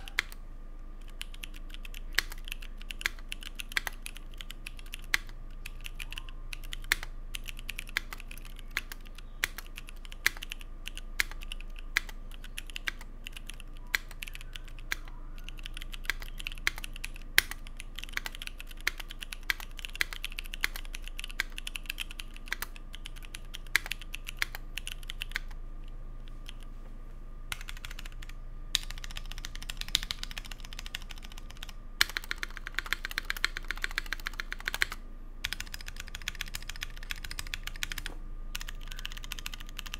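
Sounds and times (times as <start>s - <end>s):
mechanical keyboard keystroke clacks: 1.0s - 25.5s, 27.5s - 39.9s.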